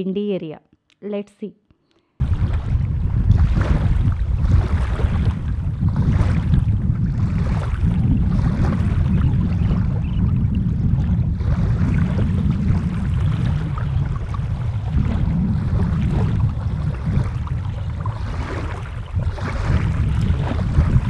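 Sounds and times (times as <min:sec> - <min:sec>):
water rushing: 0:02.2 - 0:21.0
wind buffeting microphone: 0:02.2 - 0:21.0.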